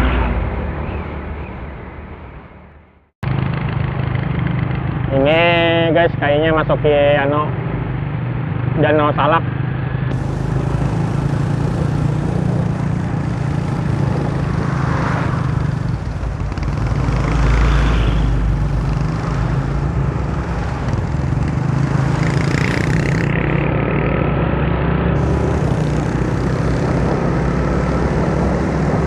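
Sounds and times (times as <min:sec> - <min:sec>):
motorcycle engine droning: 0:00.0 - 0:29.0
rushing road noise: 0:00.0 - 0:29.0.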